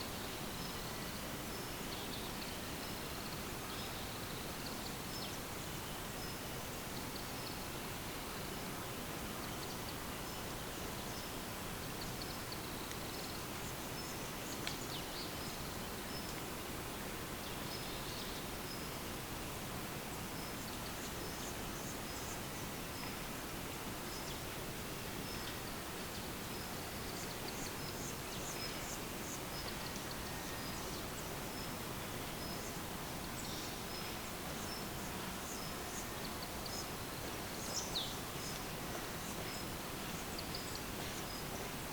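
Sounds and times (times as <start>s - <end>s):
steady outdoor hiss: 0.0s - 41.9s.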